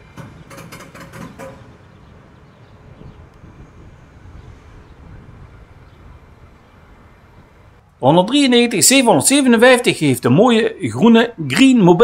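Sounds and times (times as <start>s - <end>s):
faint train rumble: 0.0s - 11.3s.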